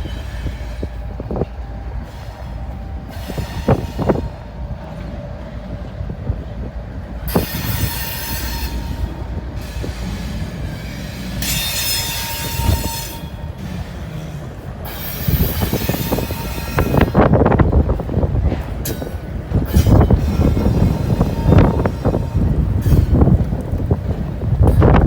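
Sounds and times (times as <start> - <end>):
train wheels squealing: 0.0 - 5.1, 7.2 - 17.4, 18.9 - 25.0
freight train rumbling past: 0.0 - 25.0.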